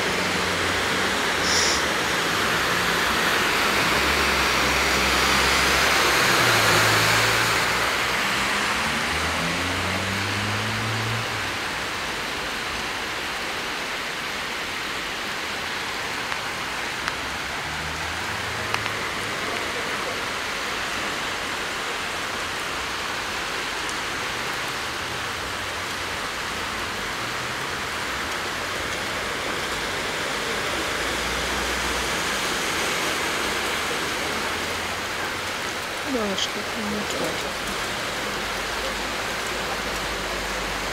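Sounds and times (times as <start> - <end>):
heavy rain on street: 0.0 - 40.9.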